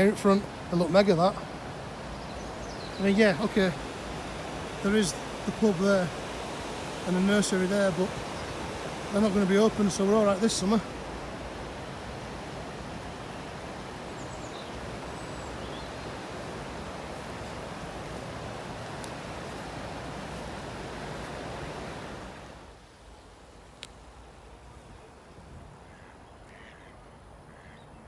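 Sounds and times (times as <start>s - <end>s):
flowing river water: 0.0s - 27.5s.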